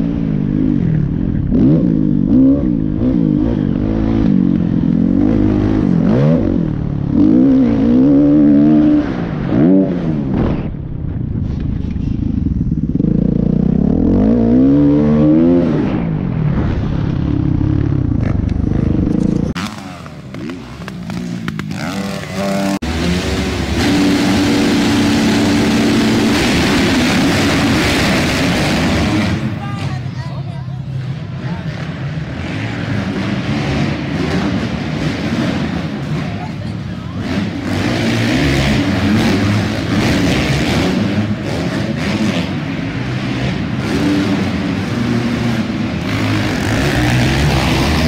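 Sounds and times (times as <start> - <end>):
dirt bike engine revving: 0.0 - 10.4, 12.2 - 16.3, 17.3 - 48.0
engines running in echoing arena: 0.0 - 48.0.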